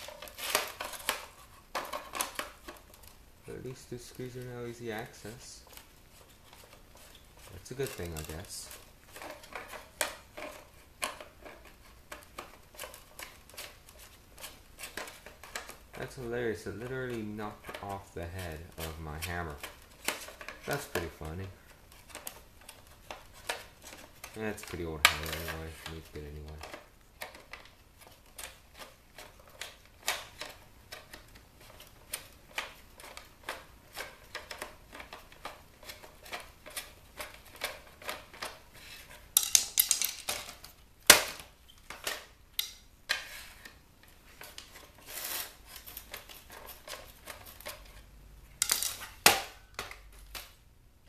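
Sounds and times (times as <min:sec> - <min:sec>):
sharp plastic crack: 0:00.0 - 0:03.2, 0:04.0 - 0:48.0, 0:48.6 - 0:50.6
plastic scraping: 0:00.0 - 0:50.6
plastic clicks and creaks: 0:04.0 - 0:48.0.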